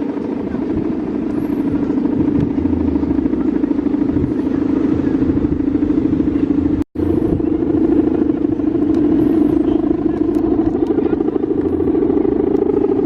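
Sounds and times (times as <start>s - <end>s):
kite bow droning in wind: 0.0s - 13.0s.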